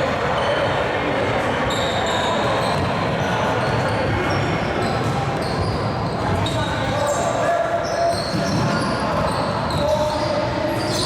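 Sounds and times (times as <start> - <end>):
crowd noise in large hall: 0.0 - 11.0
sneakers squeaking: 1.6 - 11.0.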